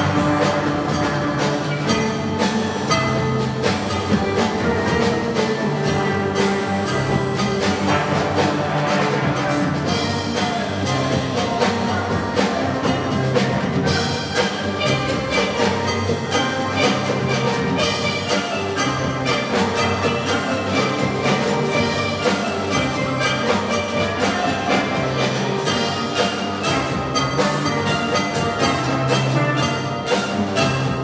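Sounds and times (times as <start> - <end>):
steel band playing: 0.0 - 31.0.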